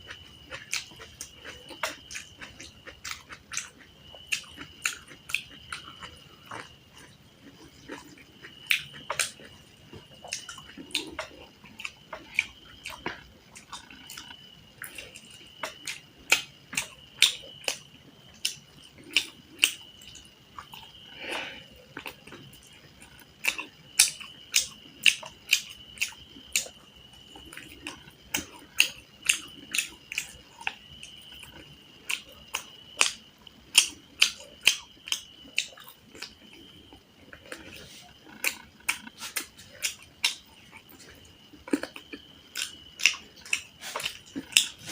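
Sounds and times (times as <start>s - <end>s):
chewing and mouth smacks: 0.1s - 44.9s.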